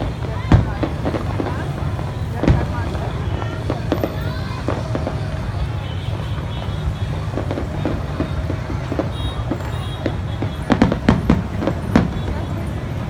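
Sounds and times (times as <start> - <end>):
fireworks bursting: 0.0 - 13.0
fireworks crackles: 0.0 - 13.0.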